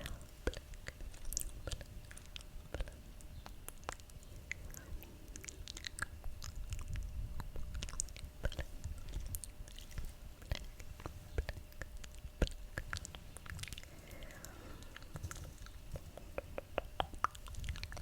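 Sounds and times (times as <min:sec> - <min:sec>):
wet mouth clicks and smacks: 0:00.4 - 0:18.0.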